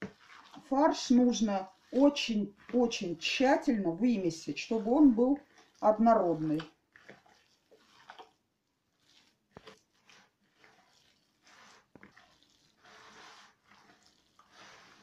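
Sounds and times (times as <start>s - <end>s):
hands kneading wet mixture: 0.0s - 15.0s.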